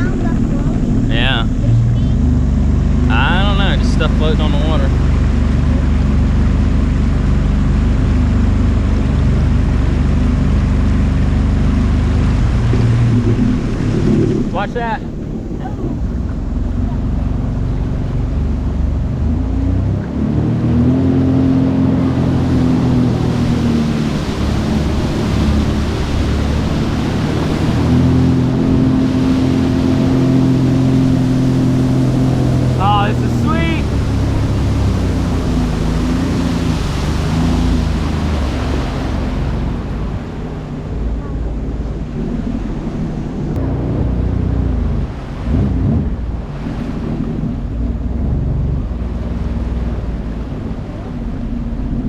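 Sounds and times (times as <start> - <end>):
watercraft engine drone: 0.0 - 52.0.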